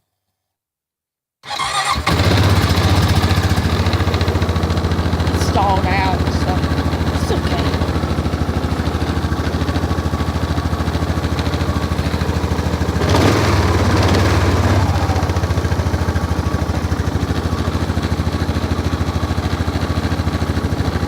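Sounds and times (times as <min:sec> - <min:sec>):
engine idling: 0:01.5 - 0:21.0
engine revving: 0:01.5 - 0:21.0.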